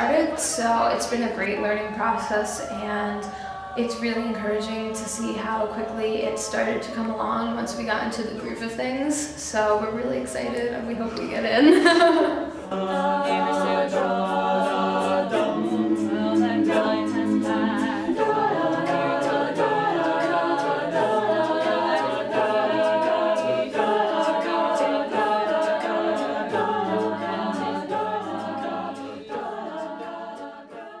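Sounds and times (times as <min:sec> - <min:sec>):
a cappella group singing: 0:00.0 - 0:31.0
vocal percussion beat: 0:00.0 - 0:31.0.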